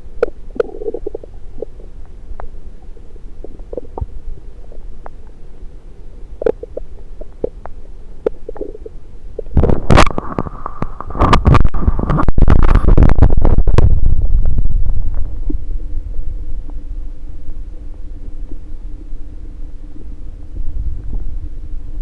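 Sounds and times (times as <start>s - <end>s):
stomach gurgling: 0.0s - 5.4s, 6.1s - 19.2s.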